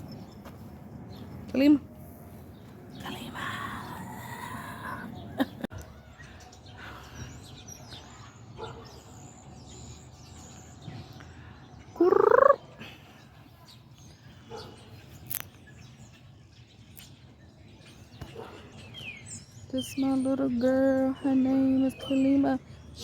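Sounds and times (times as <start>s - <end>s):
birds chirping faintly: 0.0s - 23.0s
low outdoor hum: 0.0s - 23.0s.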